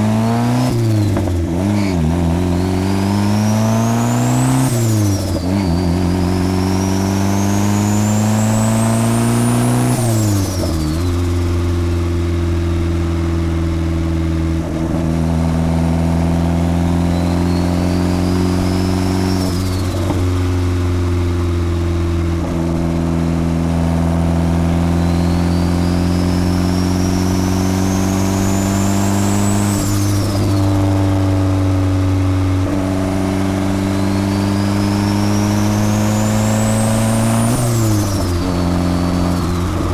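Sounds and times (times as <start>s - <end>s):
car engine under boost: 0.0s - 12.0s, 15.9s - 39.9s
high turbo whine: 0.0s - 39.9s.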